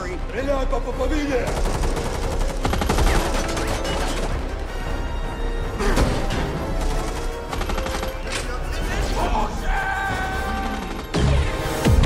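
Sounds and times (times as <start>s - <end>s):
dramatic score music: 0.0s - 12.0s.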